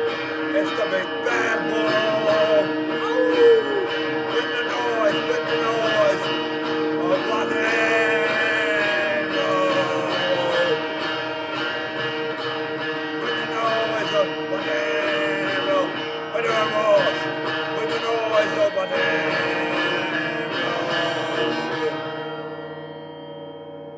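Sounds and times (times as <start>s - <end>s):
guitar song: 0.0s - 22.9s.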